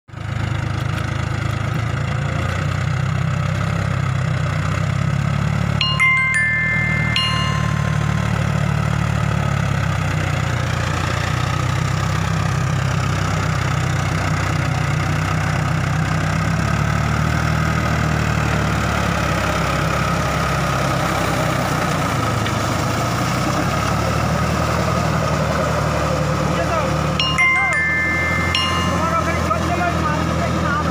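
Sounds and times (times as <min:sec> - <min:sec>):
tractor diesel engine under load: 0:00.1 - 0:30.9.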